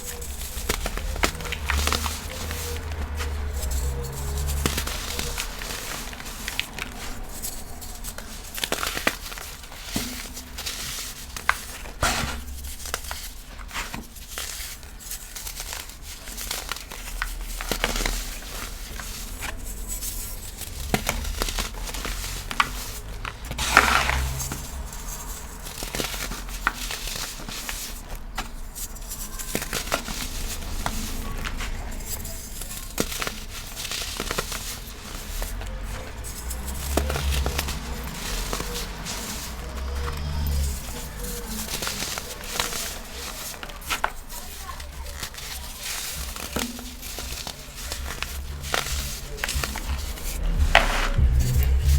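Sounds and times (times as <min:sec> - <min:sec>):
chalk crunching and crackling: 0:00.0 - 0:51.9.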